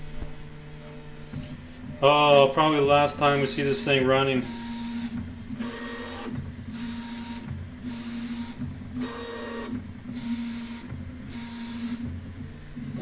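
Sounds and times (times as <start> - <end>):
steady low hum: 0.0 - 13.0
stepper motors whirring: 0.0 - 13.0.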